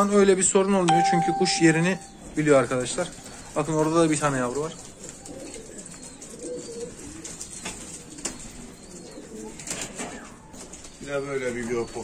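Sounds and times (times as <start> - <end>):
pigeons cooing: 2.2 - 12.0.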